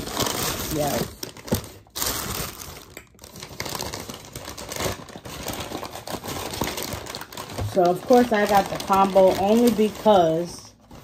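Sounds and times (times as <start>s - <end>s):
paper bag rustling: 0.0s - 11.0s.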